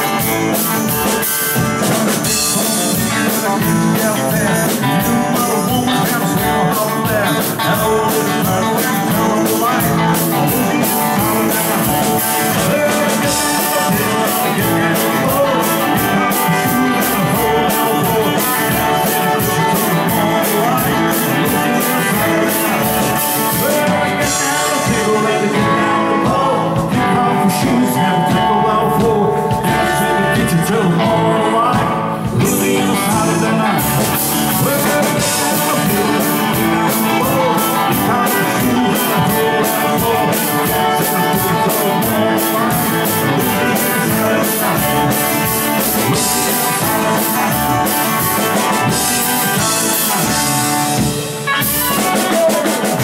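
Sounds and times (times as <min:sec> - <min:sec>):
country rock band with guitars: 0:00.0 - 0:53.0
drums steady beat: 0:00.0 - 0:53.0.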